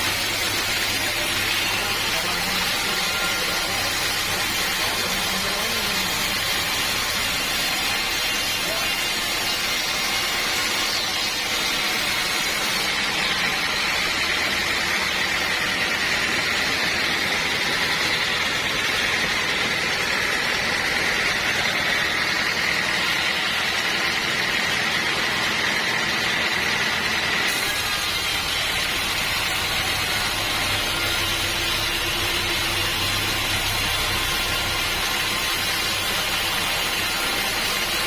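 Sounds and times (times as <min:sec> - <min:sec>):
sawmill saw running: 0:00.0 - 0:38.0.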